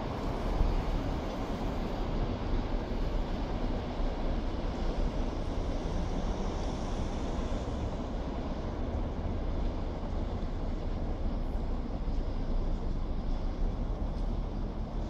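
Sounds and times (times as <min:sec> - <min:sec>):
moving train rumble: 0:00.0 - 0:15.0.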